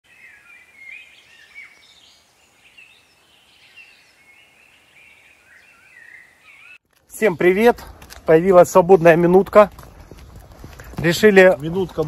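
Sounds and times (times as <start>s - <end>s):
birds chirping and warbling: 0.1s - 12.0s.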